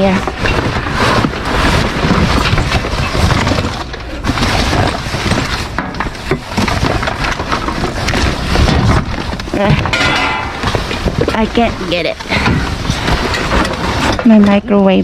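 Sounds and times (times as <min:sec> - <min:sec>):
small knocks and clatters: 0:00.0 - 0:15.0
trash rustling in a dumpster: 0:00.0 - 0:15.0.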